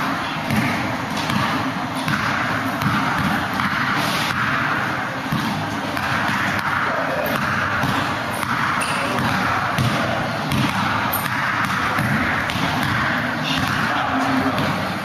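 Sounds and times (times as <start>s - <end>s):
background noise: 0.0s - 15.0s
basketball dribbling on court: 0.4s - 4.6s, 5.2s - 14.9s.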